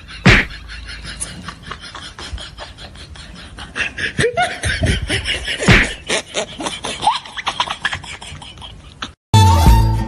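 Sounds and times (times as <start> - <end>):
man laughing: 0.0 - 9.2.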